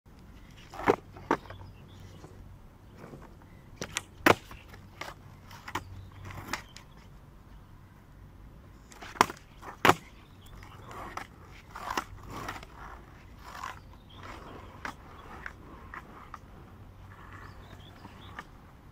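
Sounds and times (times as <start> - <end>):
skateboard clacking on asphalt: 0.2 - 7.1, 8.8 - 18.9
skateboard wheels rolling: 0.2 - 7.2, 8.6 - 18.9.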